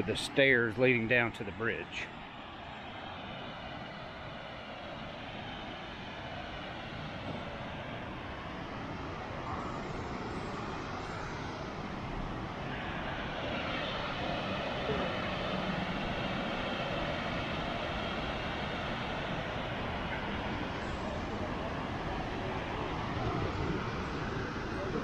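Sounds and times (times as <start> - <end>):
waterfall roaring: 3.2 - 25.0.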